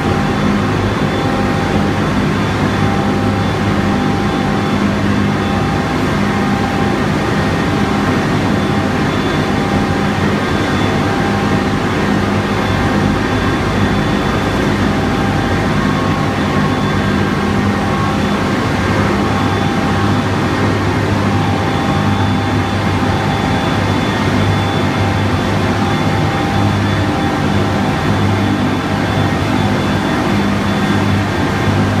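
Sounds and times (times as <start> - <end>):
baler machine running: 0.0 - 32.0
faint high whine: 0.0 - 32.0.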